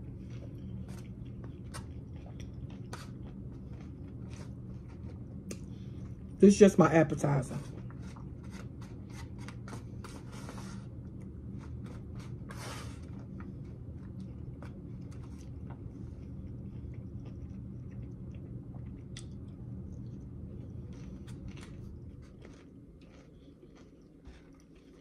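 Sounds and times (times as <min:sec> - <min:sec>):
chewing and crunching salad: 0:00.0 - 0:06.4, 0:07.2 - 0:25.0
steady low hum: 0:00.0 - 0:25.0.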